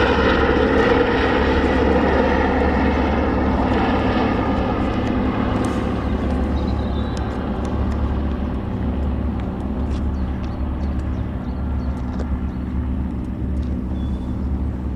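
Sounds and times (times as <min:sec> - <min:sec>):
helicopter running: 0:00.0 - 0:14.9.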